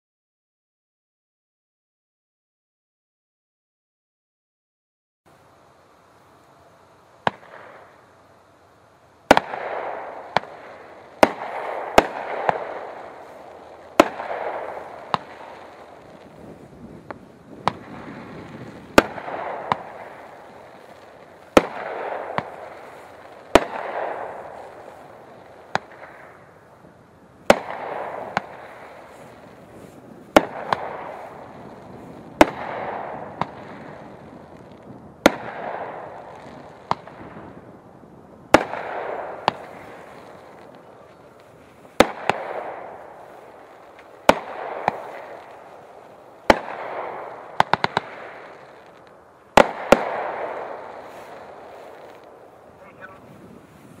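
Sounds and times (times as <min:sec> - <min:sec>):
firework bursts hissing: 0:05.4 - 0:37.8, 0:38.5 - 0:54.0
firework shots: 0:06.3 - 0:08.4, 0:09.2 - 0:54.0.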